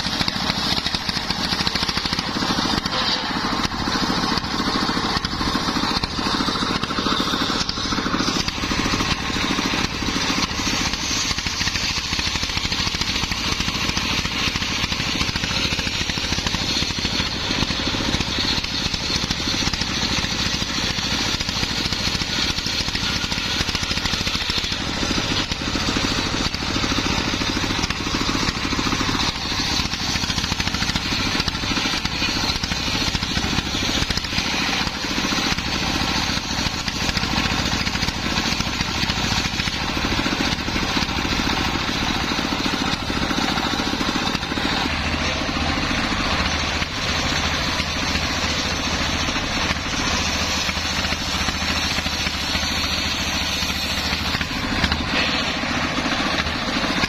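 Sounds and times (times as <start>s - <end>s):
circular saw cutting wood: 0.0s - 57.0s
diesel engine running: 0.0s - 57.0s.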